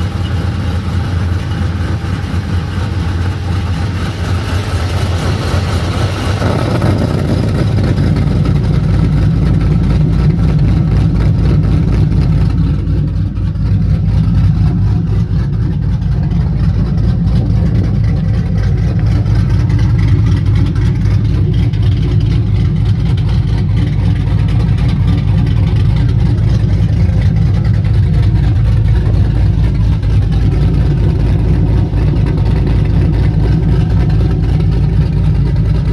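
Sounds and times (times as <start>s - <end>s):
deep car exhaust note: 0.0s - 35.9s.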